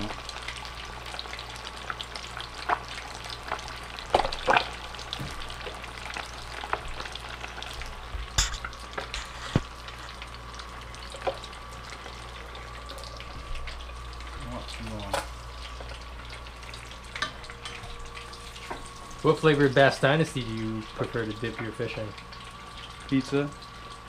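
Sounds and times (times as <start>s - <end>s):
fish deep-frying in oil: 0.0s - 24.0s.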